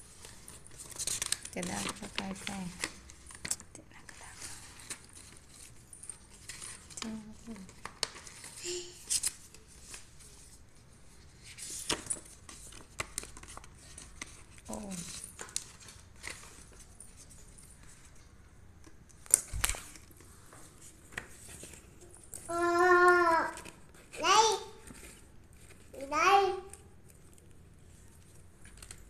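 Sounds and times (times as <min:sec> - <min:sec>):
plastic and paper packaging crinkling: 0:00.0 - 0:29.0.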